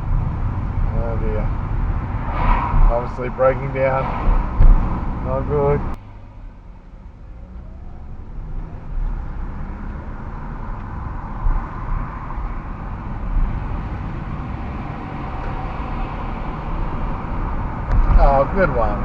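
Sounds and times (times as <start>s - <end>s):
car engine and tyre road noise: 0.0s - 19.0s.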